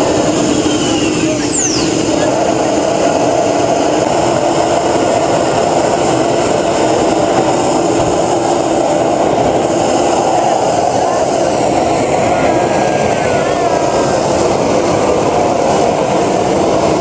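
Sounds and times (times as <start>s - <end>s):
gas turbine running with whine: 0.0s - 17.0s.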